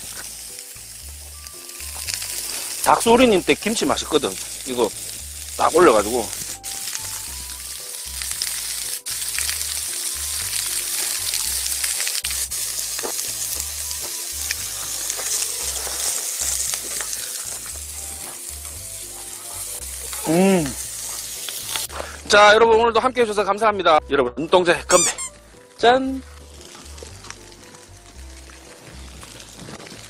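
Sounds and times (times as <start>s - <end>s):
meat sizzling with small pops: 0.0s - 22.6s, 25.0s - 30.0s.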